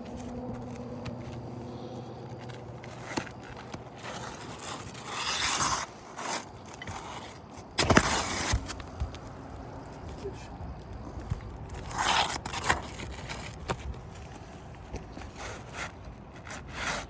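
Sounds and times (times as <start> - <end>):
scraping on shingle roof: 0.0 - 17.0.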